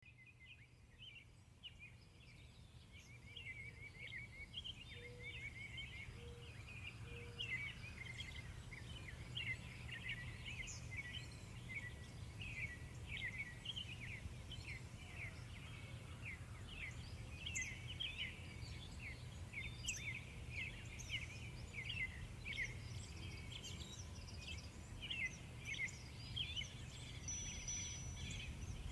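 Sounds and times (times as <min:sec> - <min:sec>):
birds chirping: 0:02.6 - 0:28.9.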